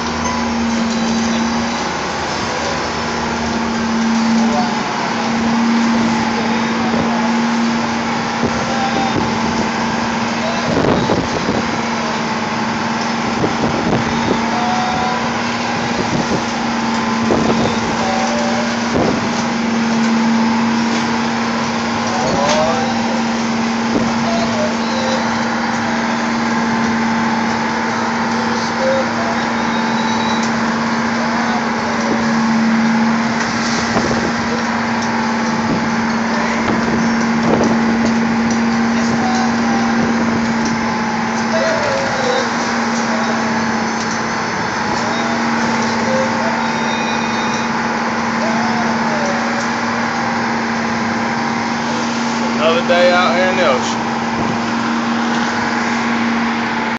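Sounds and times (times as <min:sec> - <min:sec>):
wind and sea noise: 0:00.0 - 0:30.8, 0:31.5 - 0:48.1, 0:53.8 - 0:56.9
boat engine hum: 0:00.0 - 0:56.9.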